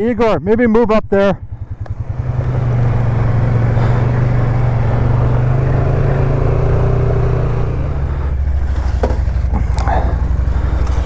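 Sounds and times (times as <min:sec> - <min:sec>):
engine at fast idle: 0:01.4 - 0:11.0.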